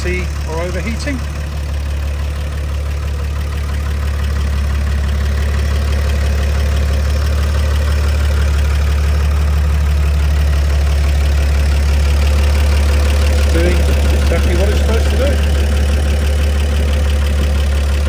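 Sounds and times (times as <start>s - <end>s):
truck petrol engine idling: 0.0s - 18.0s.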